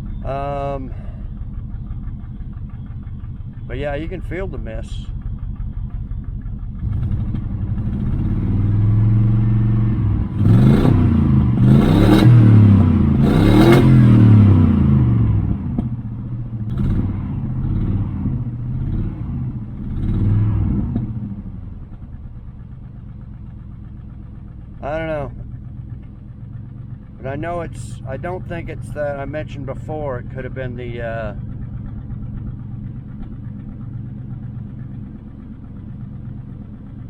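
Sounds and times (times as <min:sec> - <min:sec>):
car engine revving and idling: 0:00.0 - 0:37.0.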